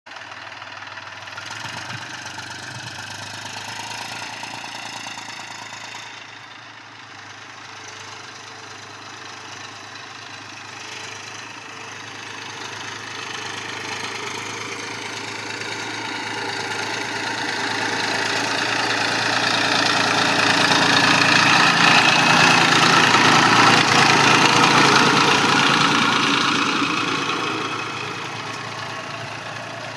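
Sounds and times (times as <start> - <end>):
tractor engine running: 0.1 - 29.9.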